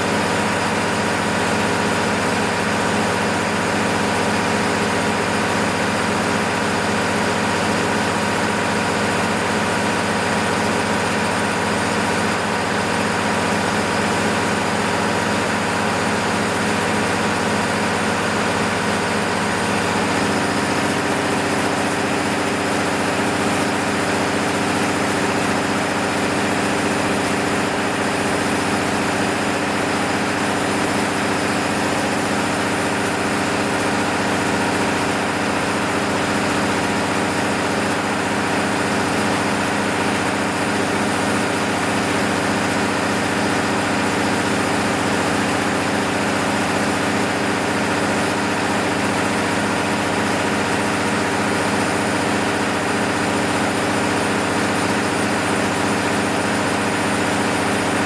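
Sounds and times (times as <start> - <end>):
diesel generator running: 0.0 - 58.0.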